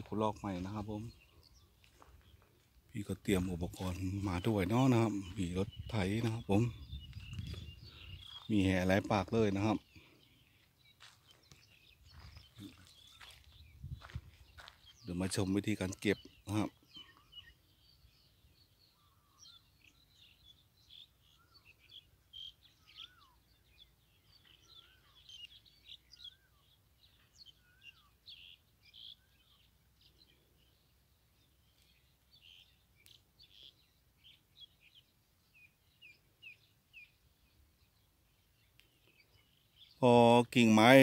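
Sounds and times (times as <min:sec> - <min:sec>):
high bird chirps: 0:03.0 - 0:41.0.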